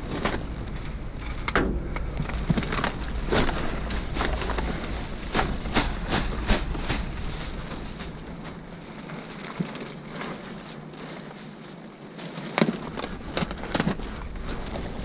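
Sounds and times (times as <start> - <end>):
low steady rumble: 0.0 - 15.0
plastic bags rustling and crinkling: 0.0 - 15.0.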